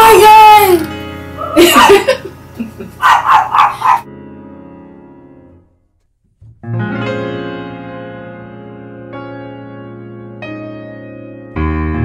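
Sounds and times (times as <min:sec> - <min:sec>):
soft piano music: 0:00.0 - 0:05.8, 0:06.6 - 0:12.0.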